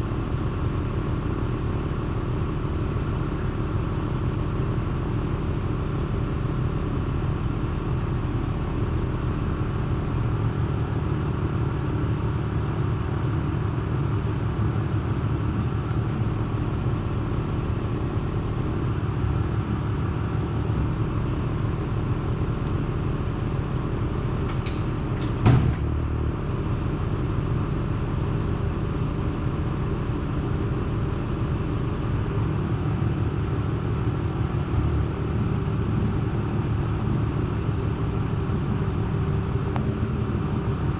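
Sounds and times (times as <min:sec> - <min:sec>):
low mechanical drone: 0:00.0 - 0:40.9.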